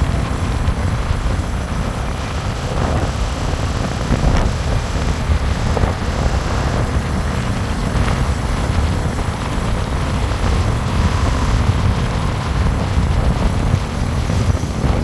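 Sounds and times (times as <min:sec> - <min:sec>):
vehicle road noise rumble: 0:00.0 - 0:15.0
wind buffeting microphone: 0:00.0 - 0:15.0.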